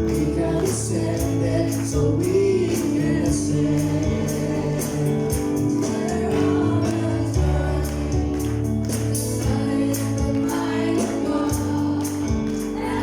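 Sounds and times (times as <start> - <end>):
keyboard chords: 0.0 - 13.0
percussion strikes: 0.0 - 13.0
voices singing together: 0.0 - 13.0.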